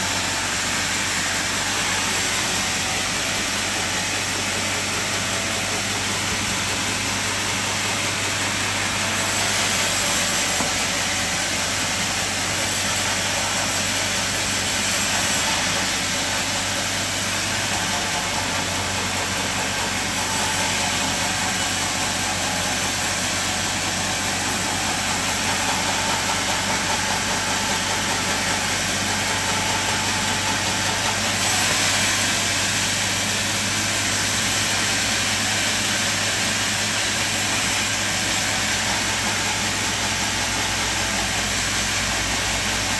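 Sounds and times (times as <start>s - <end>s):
sawmill machine humming: 0.0s - 42.9s.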